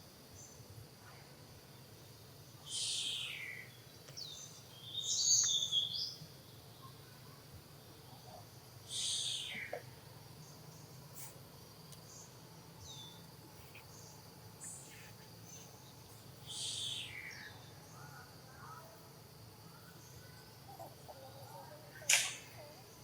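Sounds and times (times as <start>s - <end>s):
faint insect drone: 0.0s - 23.0s.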